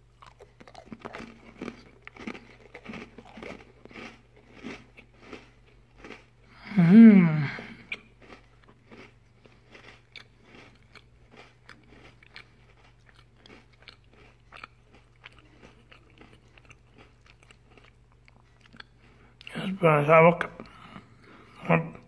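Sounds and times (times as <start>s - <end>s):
crunchy chewing of biscuit: 0.0s - 6.6s, 7.6s - 19.5s.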